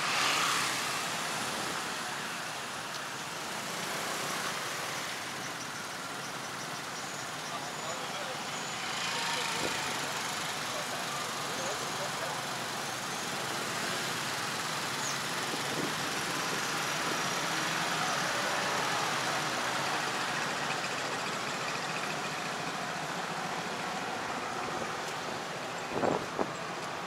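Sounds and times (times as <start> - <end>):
cars passing: 0.0 - 27.0.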